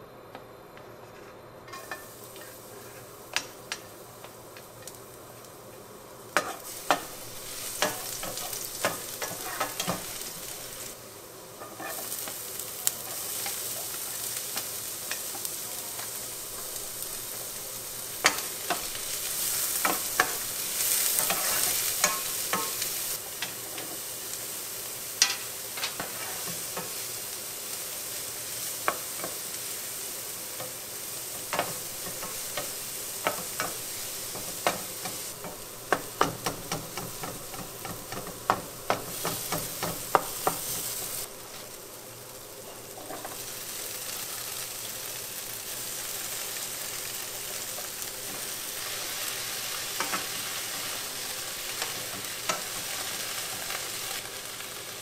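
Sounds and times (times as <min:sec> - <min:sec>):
vegetables sizzling in oil: 0:01.6 - 0:55.0.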